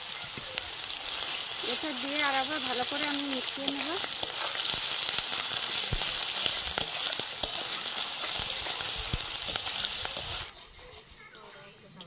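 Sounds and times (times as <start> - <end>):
paste sizzling in hot oil: 0.0 - 11.6
metal spatula scraping pan: 1.2 - 12.0.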